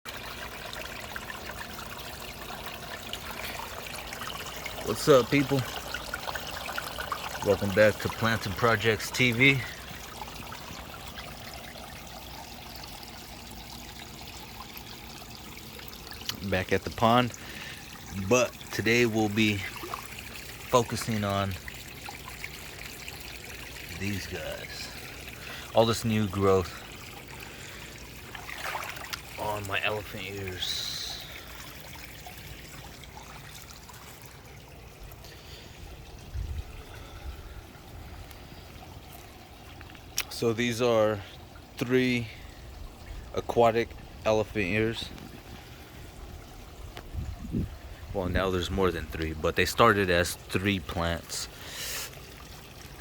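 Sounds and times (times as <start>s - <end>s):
water trickling into pond: 0.1s - 53.0s.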